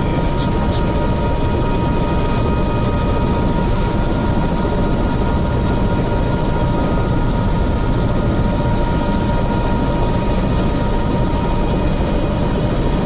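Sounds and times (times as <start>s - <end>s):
helicopter rotor and engine drone: 0.0s - 13.0s
high whine: 0.0s - 13.0s.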